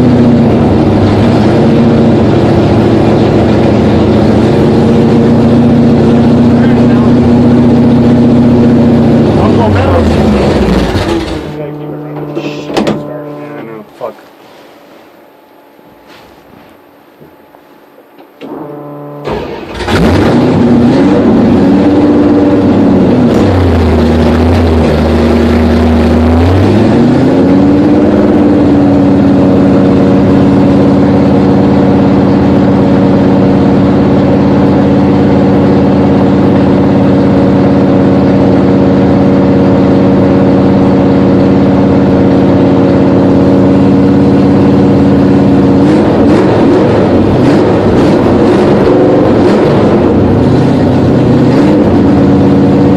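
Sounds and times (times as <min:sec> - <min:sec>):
car engine starting and revving: 0:00.0 - 0:13.7, 0:18.4 - 0:52.9.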